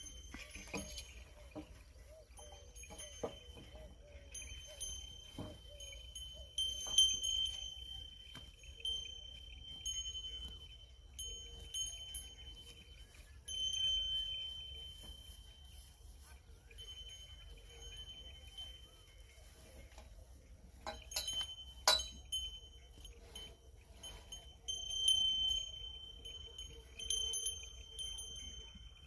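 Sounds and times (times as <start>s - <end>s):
small bells ringing: 0.0s - 29.0s.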